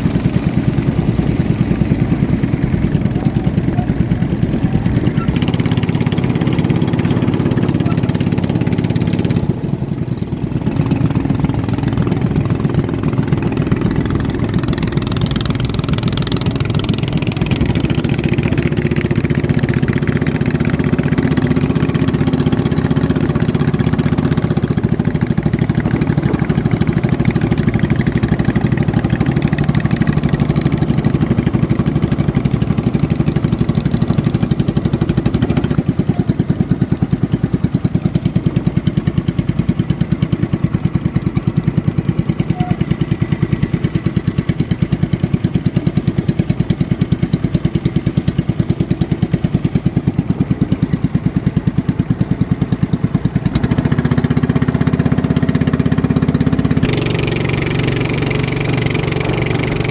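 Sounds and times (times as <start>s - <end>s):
racing boat engines running: 0.0s - 59.9s.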